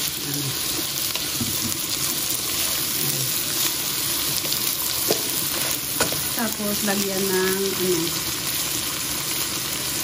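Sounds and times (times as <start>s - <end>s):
meat and vegetables sizzling in a wok: 0.0s - 10.0s.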